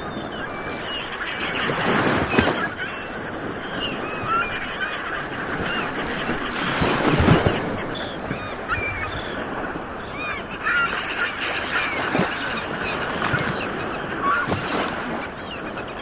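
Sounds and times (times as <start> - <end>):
bird calls: 0.0 - 16.0
ocean surf washing on shore: 0.0 - 16.0.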